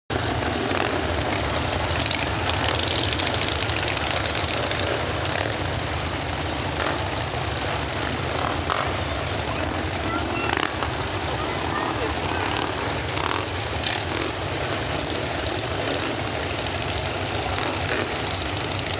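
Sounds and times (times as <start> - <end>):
motorcycles rumbling past: 0.1 - 18.9.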